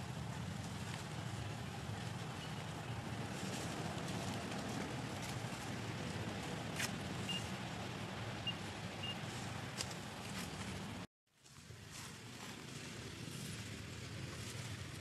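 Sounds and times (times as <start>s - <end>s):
rustles in dry leaf litter: 0.2s - 7.6s, 9.2s - 15.0s.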